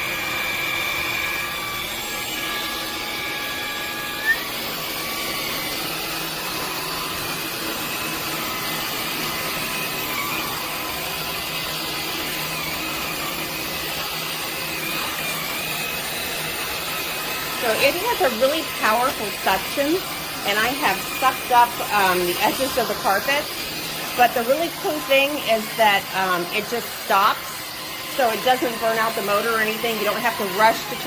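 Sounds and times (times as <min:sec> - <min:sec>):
cordless vacuum whining: 0:00.0 - 0:31.0.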